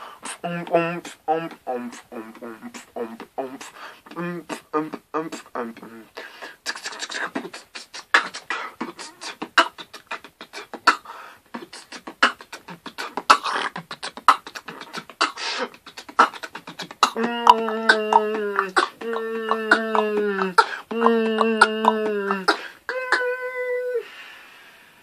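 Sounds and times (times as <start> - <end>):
beatboxing: 0.0 - 23.5.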